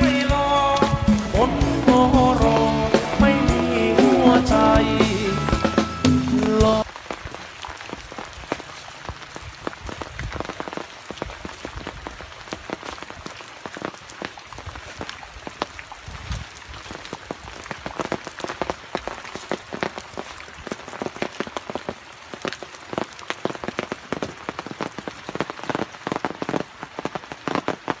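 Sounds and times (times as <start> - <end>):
raindrops striking close: 0.0 - 28.0.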